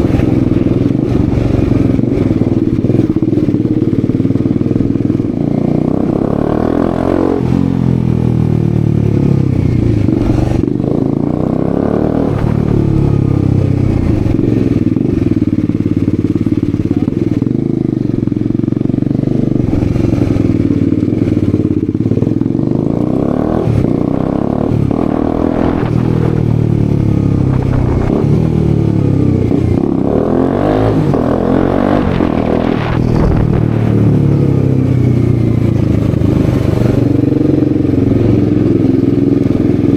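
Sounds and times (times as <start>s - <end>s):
raspy motorcycle engine revving: 0.0s - 39.9s.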